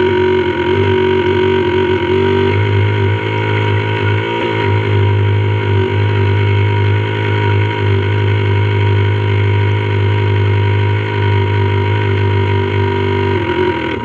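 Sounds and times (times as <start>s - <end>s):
model boat motor drone: 0.0s - 14.0s.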